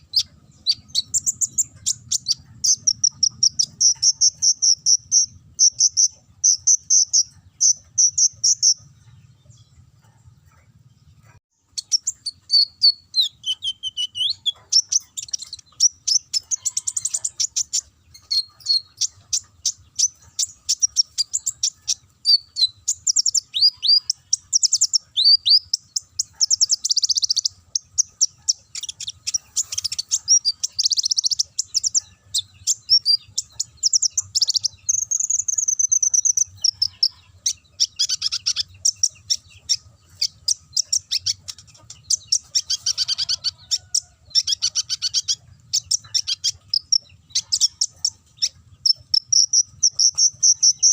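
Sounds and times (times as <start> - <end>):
bird singing fast high song: 0.0 - 50.9.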